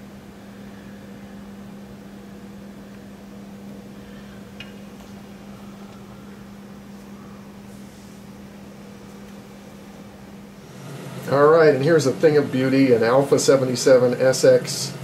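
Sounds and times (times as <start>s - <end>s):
low hum with hiss: 0.0s - 15.0s.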